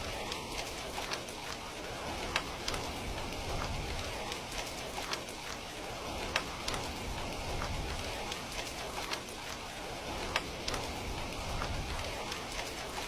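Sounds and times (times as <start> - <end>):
steady rain: 0.0 - 13.0
wood fire crackling and popping: 0.0 - 13.0.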